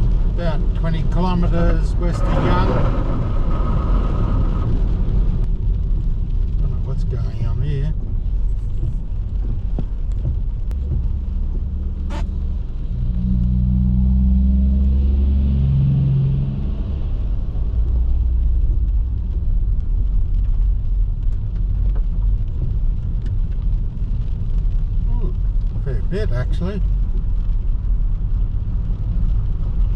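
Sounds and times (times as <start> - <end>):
car engine and tyre rumble: 0.0 - 29.9.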